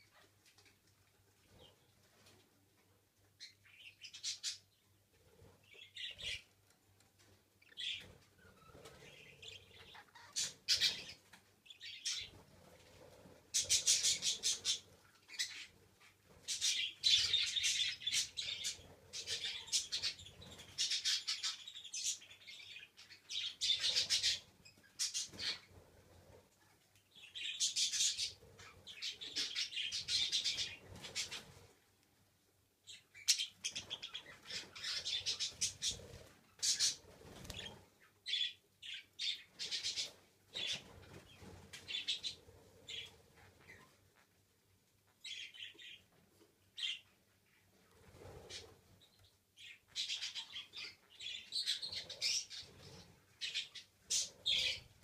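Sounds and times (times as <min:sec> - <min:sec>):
budgies chirping and chattering: 0:03.4 - 0:06.5, 0:07.6 - 0:26.0, 0:27.1 - 0:31.6, 0:32.9 - 0:44.0, 0:45.2 - 0:46.1, 0:46.8 - 0:55.0.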